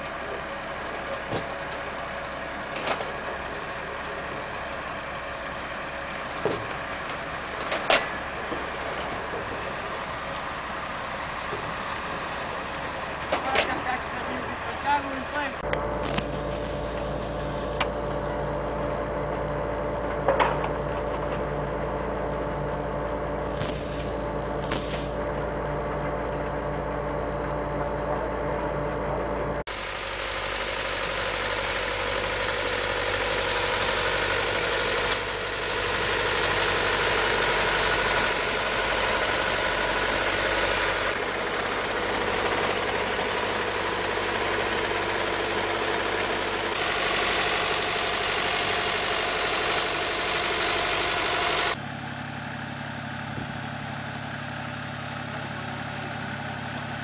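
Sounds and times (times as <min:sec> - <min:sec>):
harvester engine running: 0:00.0 - 0:57.0
tracked rover engine running: 0:00.0 - 0:57.0.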